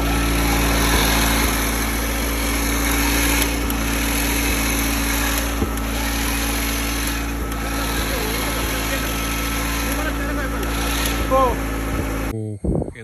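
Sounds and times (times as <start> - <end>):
electric winch whining: 0.0 - 12.4.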